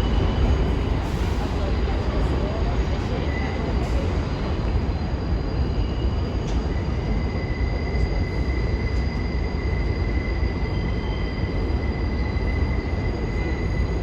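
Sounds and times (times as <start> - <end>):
train rumbling on elevated track: 0.0 - 14.0.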